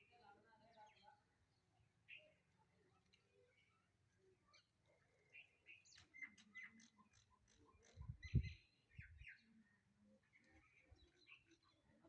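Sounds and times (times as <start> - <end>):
faint bird chirps: 2.1 - 12.0.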